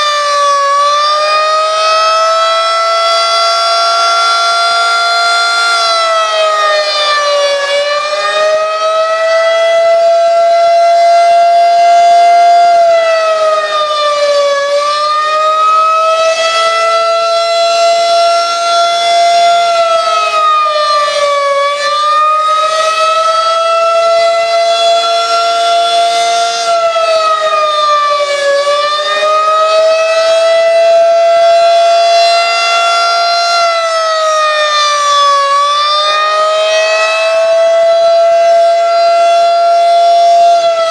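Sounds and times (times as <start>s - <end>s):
rotating warning siren: 0.0s - 40.9s.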